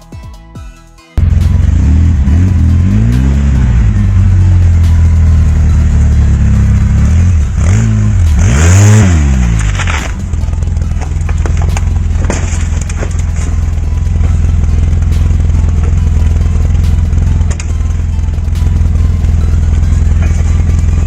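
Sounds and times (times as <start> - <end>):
off-road vehicle engine revving: 1.2 - 21.0.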